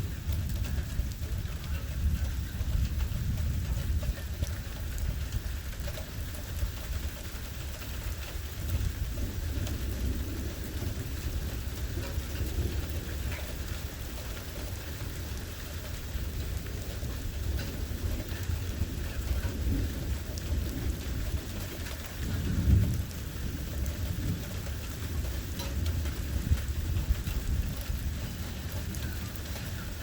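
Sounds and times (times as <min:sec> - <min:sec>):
low thunder rumble: 0:00.0 - 0:30.0
steady rain falling: 0:00.0 - 0:30.0
ticks of raindrops: 0:00.0 - 0:30.0.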